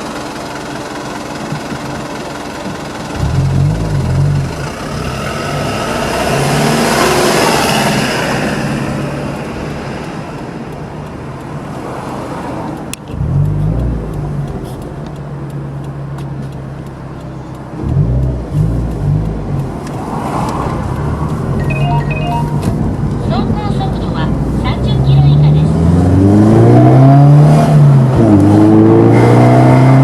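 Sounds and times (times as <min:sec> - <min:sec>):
car engine running: 0:00.0 - 0:26.6.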